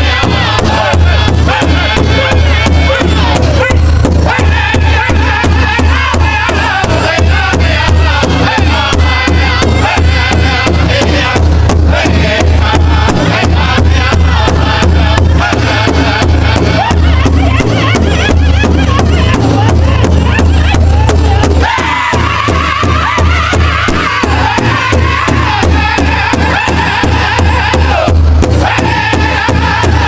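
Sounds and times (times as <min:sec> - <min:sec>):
large drum beating: 0:00.0 - 0:30.0
men singing together: 0:00.0 - 0:30.0.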